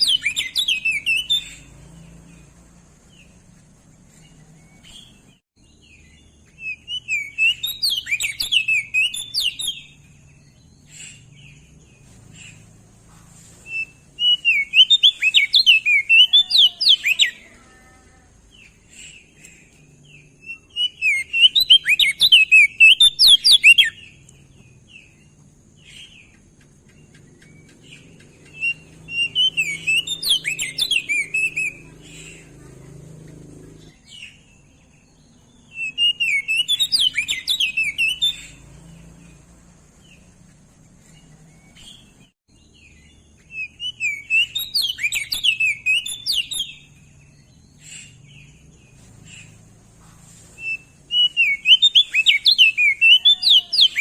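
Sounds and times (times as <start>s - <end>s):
bird warbling twittering song: 0.0s - 54.0s.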